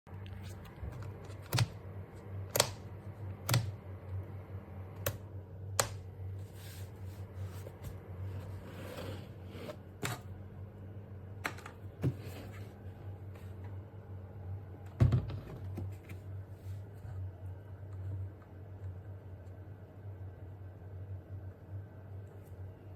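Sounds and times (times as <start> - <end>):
steady low hum: 0.1 - 22.9.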